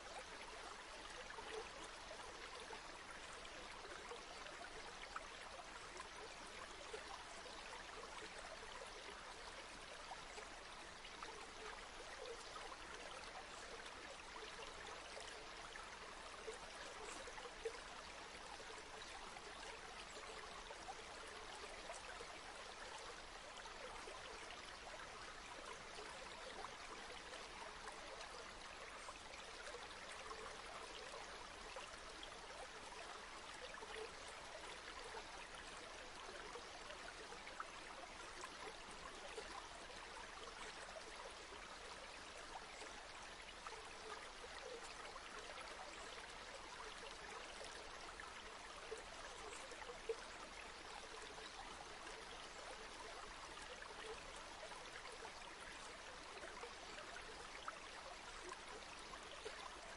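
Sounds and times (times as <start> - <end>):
river water flowing over stones: 0.0 - 59.9
small splashes and trickles: 0.0 - 59.9.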